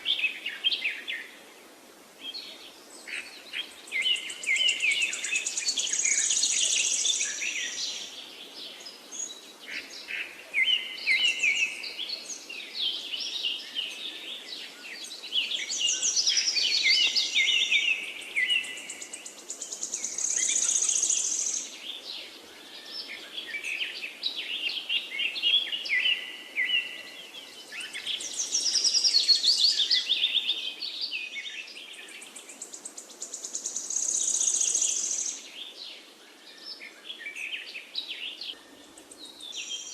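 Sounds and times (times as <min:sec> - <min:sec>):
background hiss: 0:00.0 - 0:39.9
songbird chirps and trills: 0:00.0 - 0:39.9.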